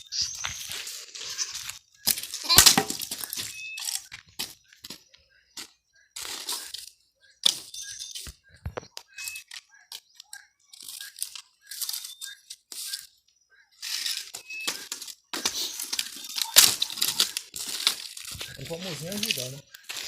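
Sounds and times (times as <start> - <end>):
brush and sticks crunching: 0.0 - 13.2, 13.8 - 20.0.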